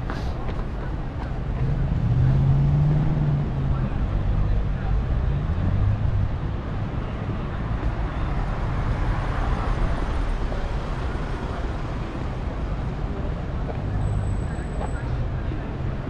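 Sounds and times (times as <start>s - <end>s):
cars passing on road: 0.0s - 16.0s.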